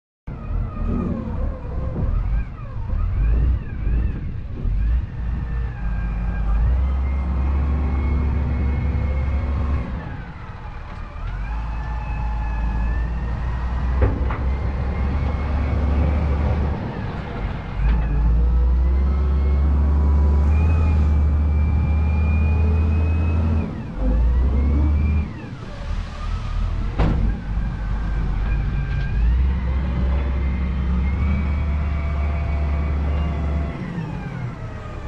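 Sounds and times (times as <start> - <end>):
diesel engines rumbling: 0.3 - 35.0.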